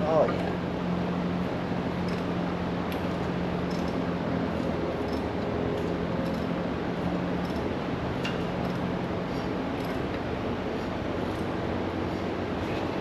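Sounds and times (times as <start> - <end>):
machine hum and rush: 0.0 - 13.0.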